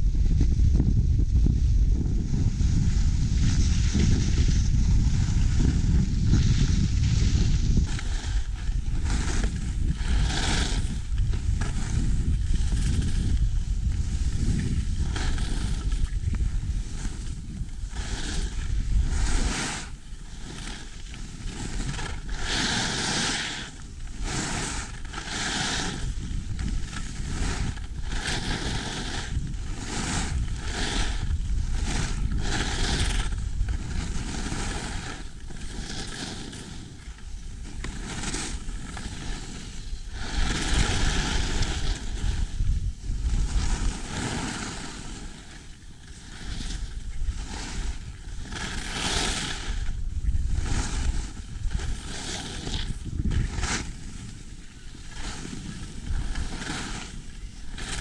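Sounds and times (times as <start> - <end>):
wind rumble on microphone: 0.0 - 58.0
skis swishing on snow: 1.6 - 58.0.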